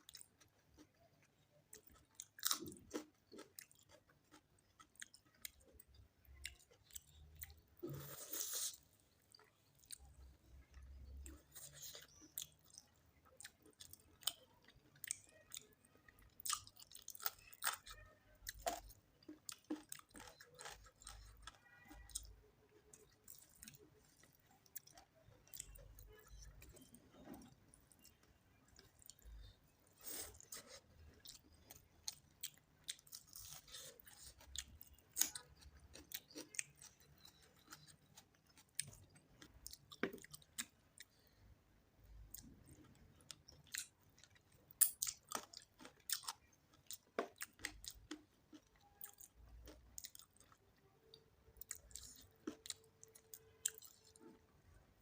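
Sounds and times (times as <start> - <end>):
person chewing food: 0.0 - 41.4, 42.1 - 54.7.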